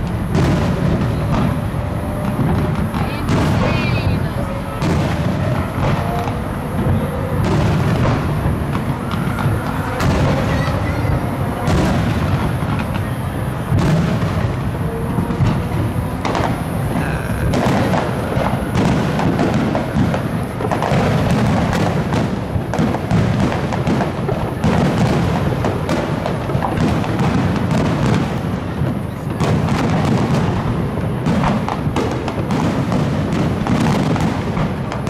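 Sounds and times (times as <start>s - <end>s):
sharp cracks: 0.0s - 30.6s
fireworks bursting: 0.0s - 35.0s.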